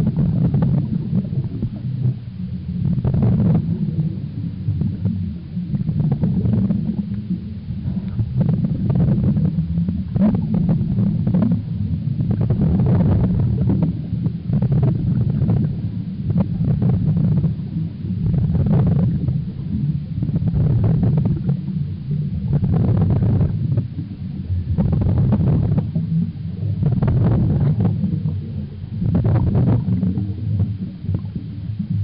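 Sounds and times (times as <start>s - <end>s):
crackling exhaled bubbles: 0.0s - 32.0s
muffled underwater rumble: 0.0s - 32.0s.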